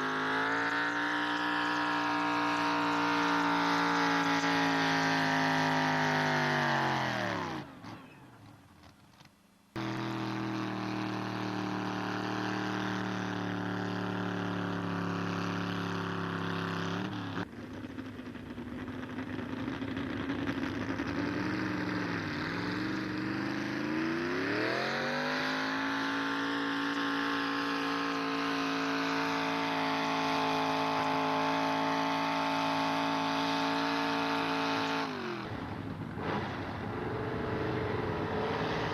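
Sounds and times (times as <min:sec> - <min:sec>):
truck engine revving high: 0:00.0 - 0:08.6, 0:09.8 - 0:38.9.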